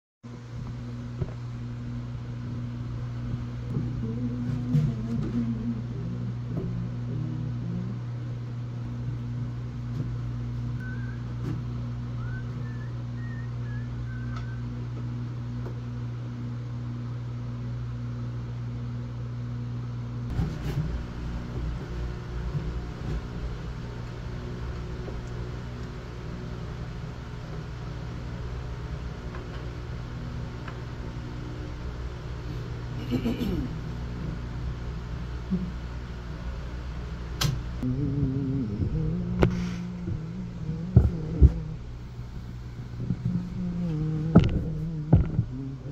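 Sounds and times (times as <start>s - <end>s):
floor fan humming: 0.3s - 45.9s.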